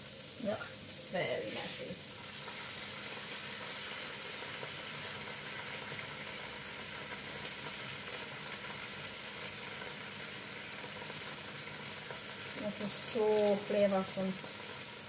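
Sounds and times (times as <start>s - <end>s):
tofu sizzling in a pan: 0.0s - 15.0s.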